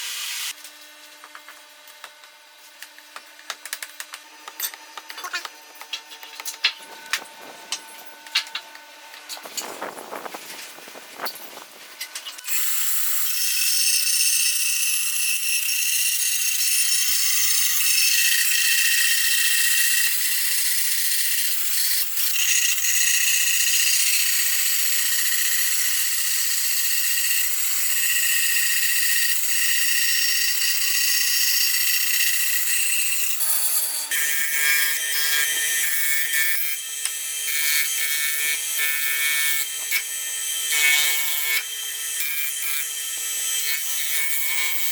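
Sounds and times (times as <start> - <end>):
power tool running under load: 0.0 - 44.9.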